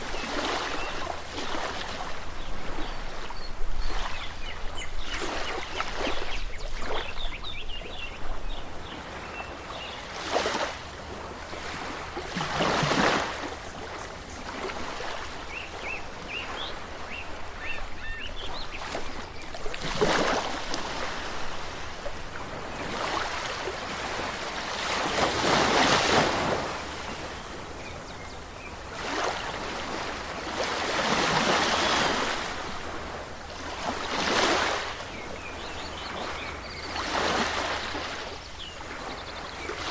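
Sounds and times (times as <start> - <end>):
sea waves washing in: 0.0 - 7.4, 8.1 - 39.9.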